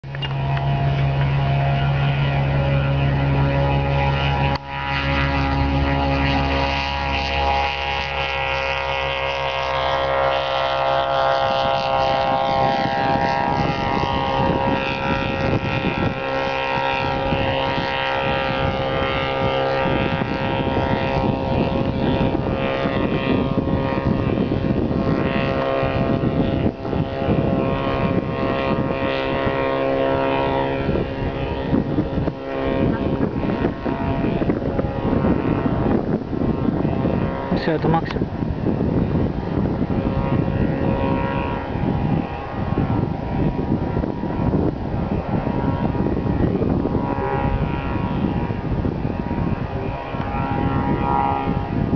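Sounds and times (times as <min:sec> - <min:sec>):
propeller plane engine drone: 0:00.0 - 0:51.9
wind buffeting microphone: 0:00.0 - 0:51.9.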